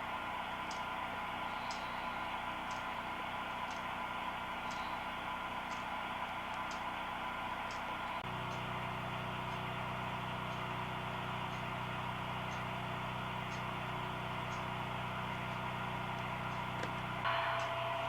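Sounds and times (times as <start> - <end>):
model train humming on track: 0.0 - 18.0.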